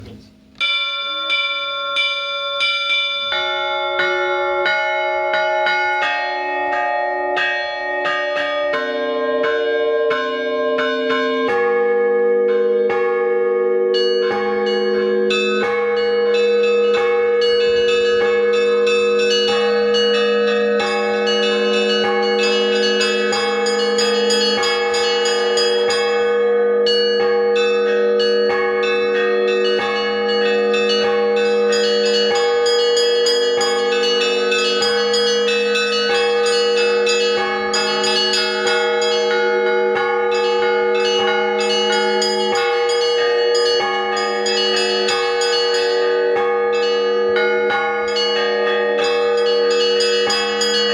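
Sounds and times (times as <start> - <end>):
church bells pealing: 0.0 - 50.9
deep bell ringing: 0.0 - 50.9.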